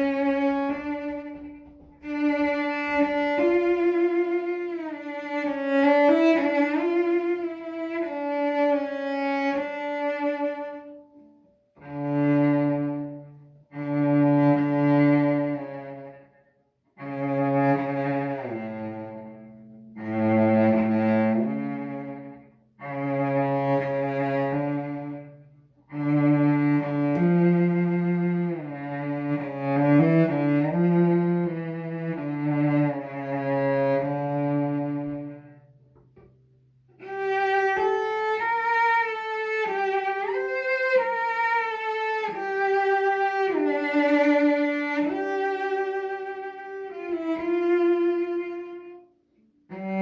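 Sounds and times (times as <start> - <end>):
bowed cello notes: 0.0 - 50.0.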